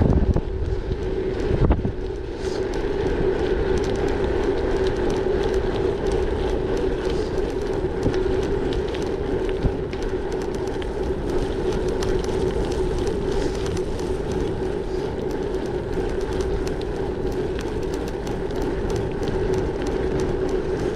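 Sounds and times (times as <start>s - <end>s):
bike tyres humming on gravel: 0.0s - 20.9s
small ticks from bike: 0.0s - 20.9s
wind rush: 0.0s - 20.9s.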